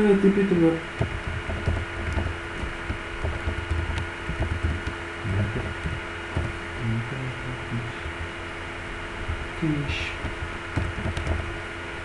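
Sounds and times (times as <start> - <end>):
electrical hum: 0.0 - 12.0
low thumps: 0.8 - 11.7.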